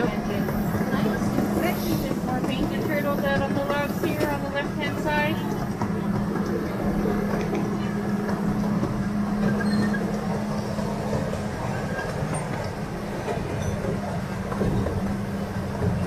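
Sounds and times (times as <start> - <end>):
miniature train running on track: 0.0 - 16.0.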